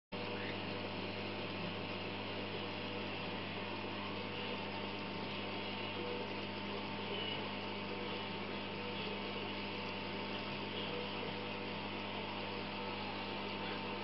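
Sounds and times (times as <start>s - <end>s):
aquarium pump hum: 0.2s - 14.0s.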